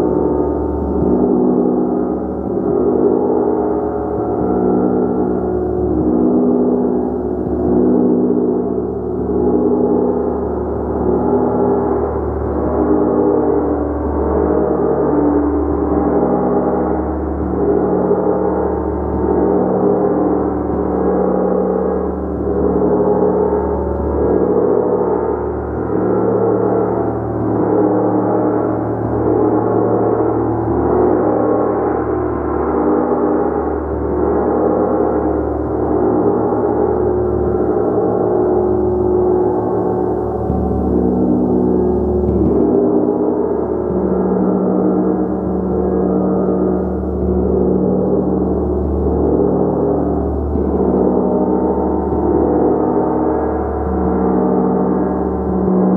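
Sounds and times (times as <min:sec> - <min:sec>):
gong shimmering: 0:00.0 - 0:55.9.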